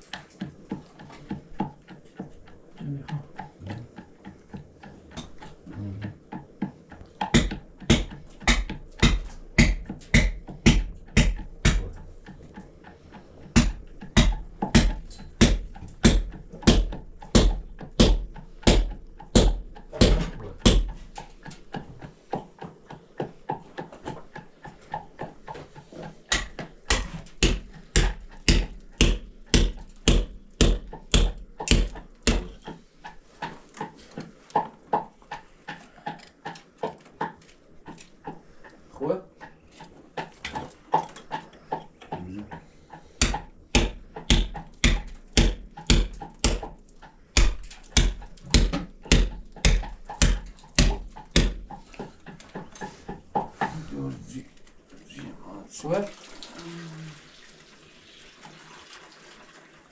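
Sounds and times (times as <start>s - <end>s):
pestle pounding in wooden mortar: 0.0s - 54.3s.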